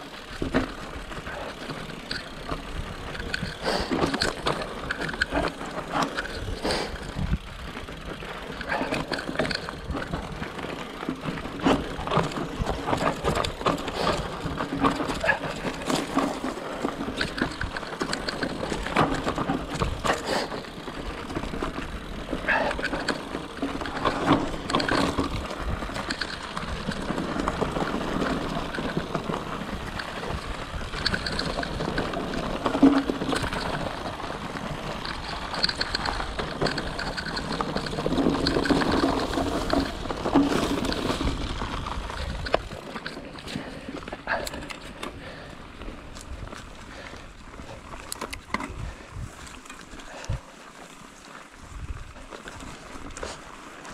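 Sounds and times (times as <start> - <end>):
bike rattling and knocking: 0.0 - 53.9
bike tyres crunching over stones: 0.0 - 53.9.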